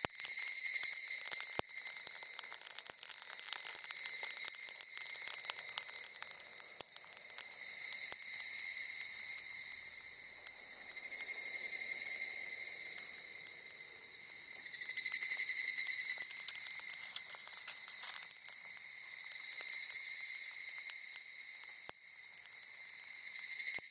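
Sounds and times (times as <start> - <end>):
high-pitched insect song: 0.0 - 2.4, 3.6 - 23.9
campfire crackling and popping: 0.0 - 23.9.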